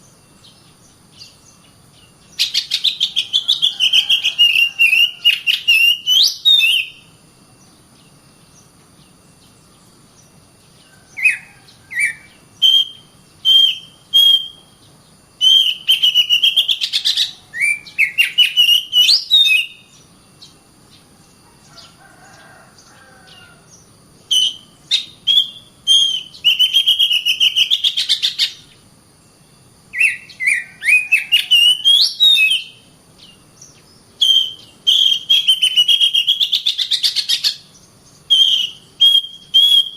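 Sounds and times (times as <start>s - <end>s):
bird singing whistles and chirps: 0.0s - 7.1s, 11.1s - 20.6s, 23.3s - 28.8s, 29.9s - 39.9s.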